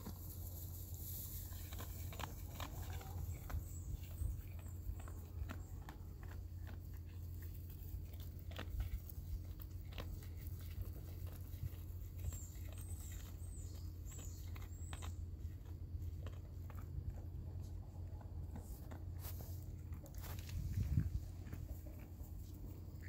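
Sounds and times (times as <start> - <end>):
goat chewing hay: 0.0 - 23.0.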